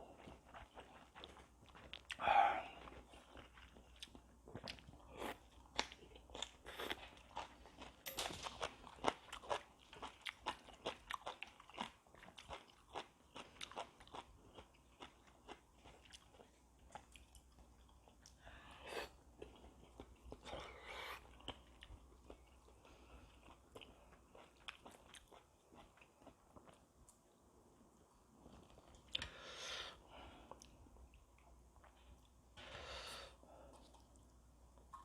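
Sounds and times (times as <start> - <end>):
person chewing: 0.0 - 27.4, 33.6 - 35.0.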